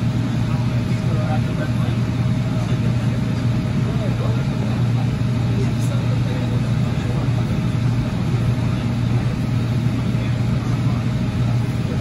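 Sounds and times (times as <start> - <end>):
light rail car running noise: 0.0 - 12.0.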